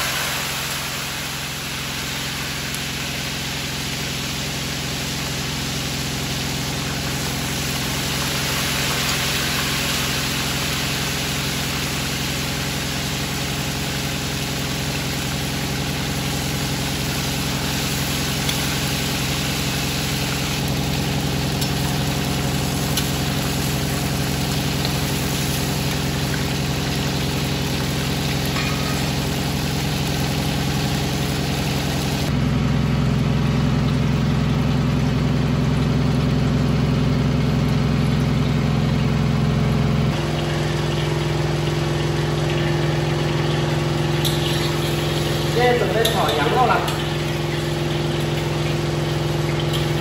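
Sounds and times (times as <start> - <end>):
oil sizzling in a wok: 0.0 - 50.0
range hood fan hum: 0.0 - 50.0.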